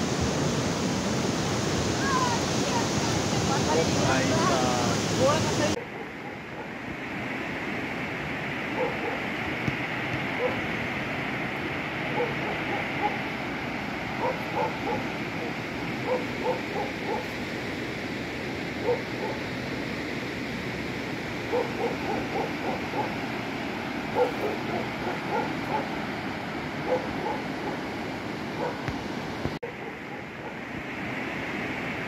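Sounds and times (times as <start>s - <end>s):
river rushing: 0.0s - 32.0s.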